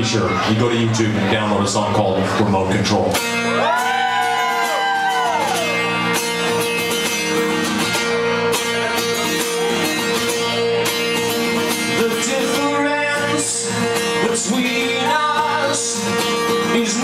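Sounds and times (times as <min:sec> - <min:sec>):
rock guitar with bent notes: 0:03.0 - 0:17.0
sustained guitar chords: 0:03.1 - 0:17.0.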